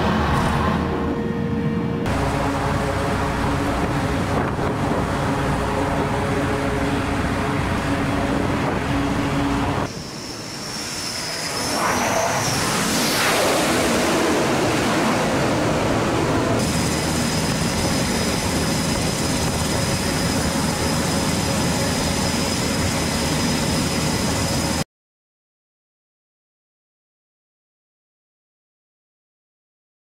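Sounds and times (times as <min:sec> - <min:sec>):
jet turbine engines whining: 0:00.0 - 0:24.8.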